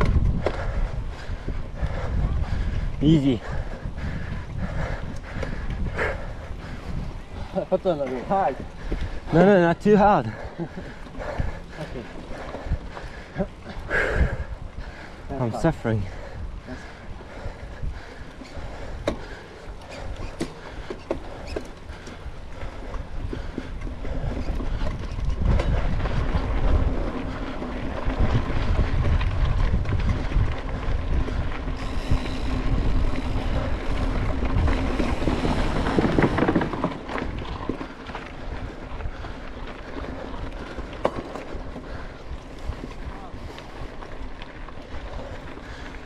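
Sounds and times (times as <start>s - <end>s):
bike chain and frame rattling: 0.0s - 46.0s
bike tyres rolling on trail: 0.0s - 46.0s
wind buffeting microphone: 0.0s - 46.0s.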